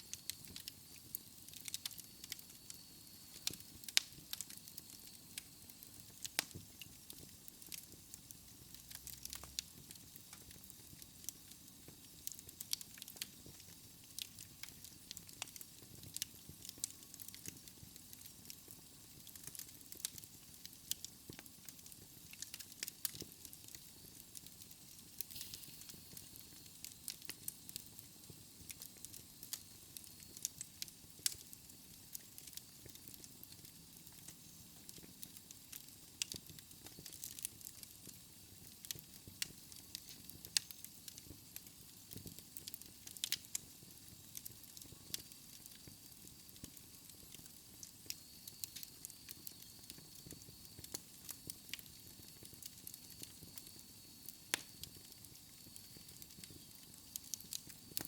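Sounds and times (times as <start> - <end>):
faint steady hiss: 0.0 - 58.0
fire crackling and popping: 0.0 - 58.0.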